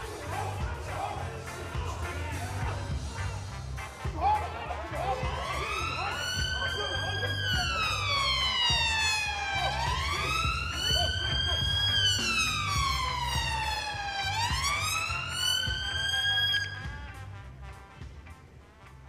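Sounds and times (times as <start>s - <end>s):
police siren wailing: 0.0s - 3.0s, 4.9s - 17.2s.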